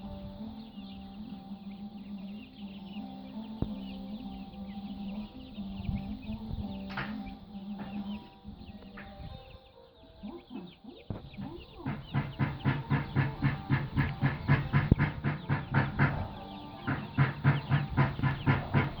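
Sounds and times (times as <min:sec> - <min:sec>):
farm fowl calling: 0:00.0 - 0:19.0.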